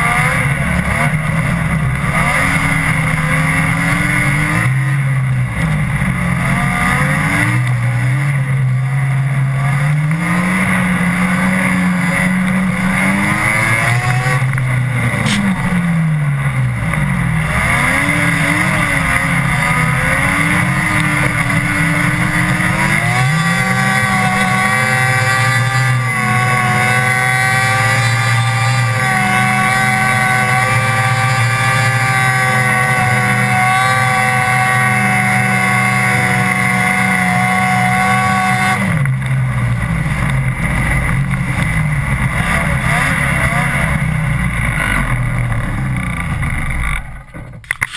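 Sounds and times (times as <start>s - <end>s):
snowmobile engine running: 0.0s - 47.9s.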